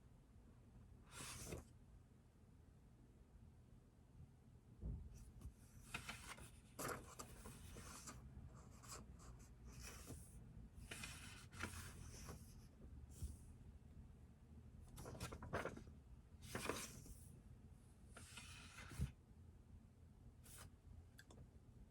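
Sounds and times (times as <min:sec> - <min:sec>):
low room hum: 0:00.0 - 0:21.9.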